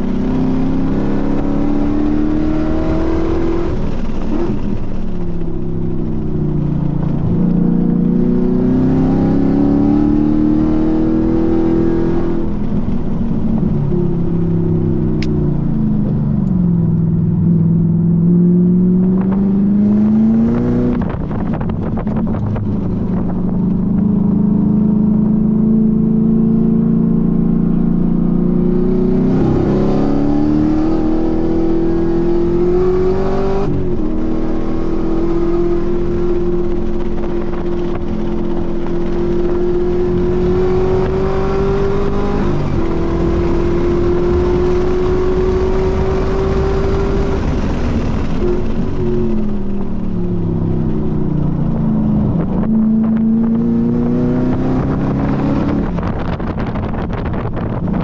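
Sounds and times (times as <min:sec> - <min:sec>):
car engine revving through gears: 0:00.0 - 0:57.8.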